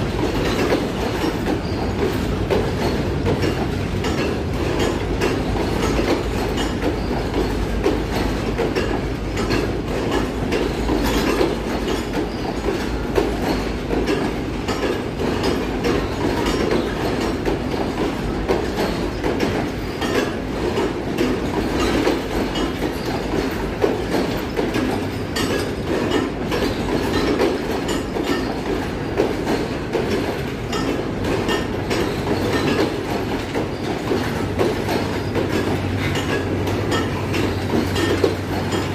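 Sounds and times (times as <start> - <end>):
train rumble: 0.0 - 38.9
train wheels clattering over rail joints: 0.0 - 38.9.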